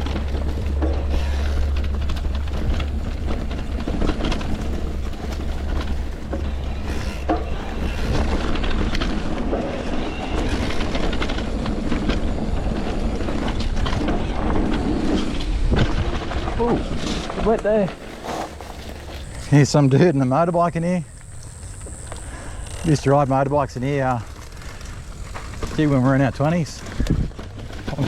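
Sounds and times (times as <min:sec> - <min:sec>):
bike clicks and rattles: 0:00.0 - 0:28.0
bike tyre noise: 0:00.0 - 0:28.0
wind rumbling on microphone: 0:00.0 - 0:28.0.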